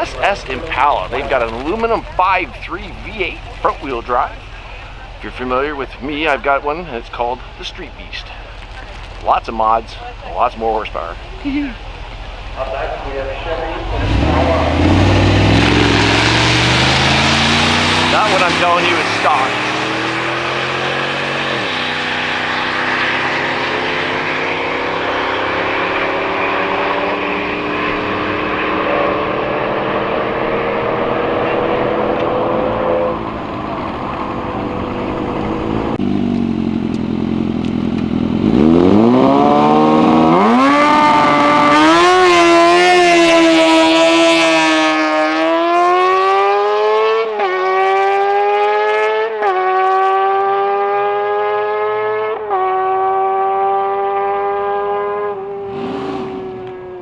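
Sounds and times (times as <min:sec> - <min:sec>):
drag car engines at full throttle: 0:00.0 - 0:57.0.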